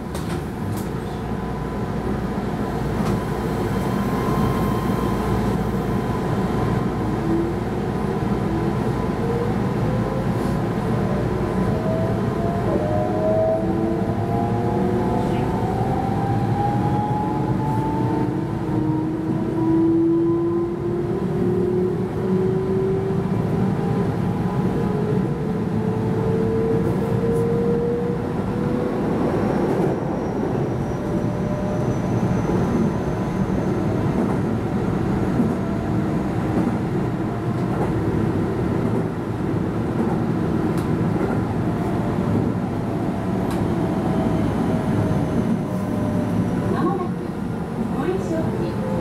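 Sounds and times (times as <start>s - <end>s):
wheels rumbling on rail: 0.0s - 49.0s.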